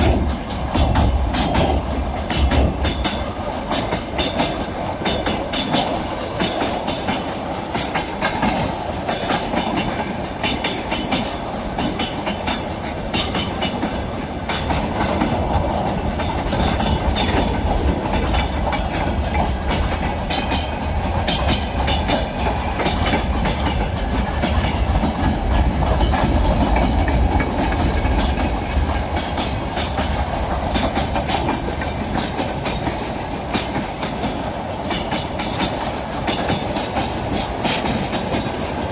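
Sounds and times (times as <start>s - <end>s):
deep train rumble: 0.0s - 38.9s
train wheels clattering over rail joints: 0.0s - 38.9s.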